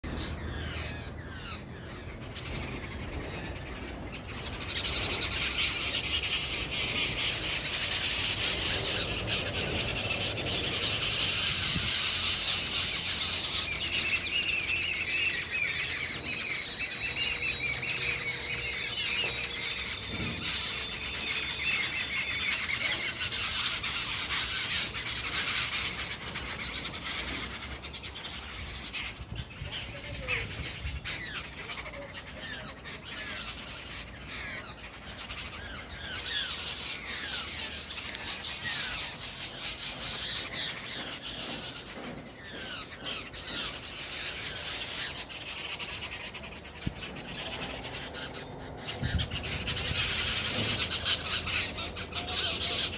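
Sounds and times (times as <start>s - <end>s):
birds chirping in chorus: 0.0s - 52.9s.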